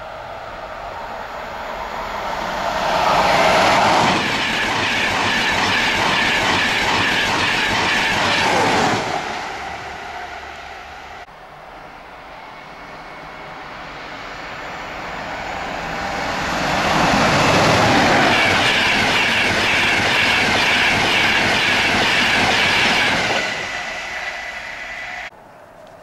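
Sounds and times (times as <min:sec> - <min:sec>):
train passing at speed: 0:00.0 - 0:25.4.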